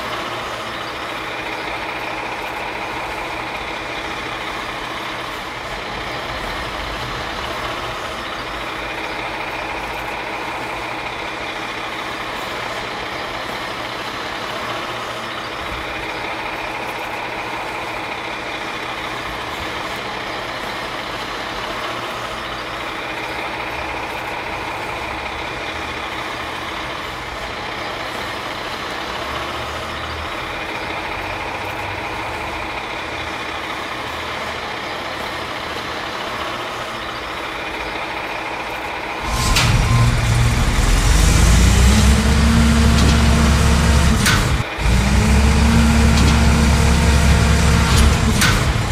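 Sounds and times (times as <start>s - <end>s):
truck engine running: 0.0s - 48.9s.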